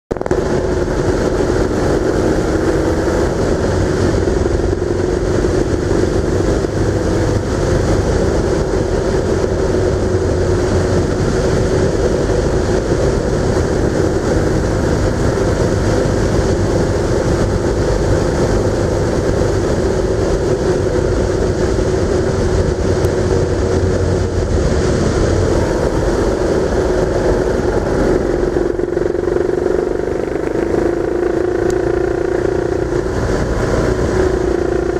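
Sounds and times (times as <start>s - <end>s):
road and wind noise: 0.0s - 34.9s
vehicle engine running: 0.1s - 34.9s.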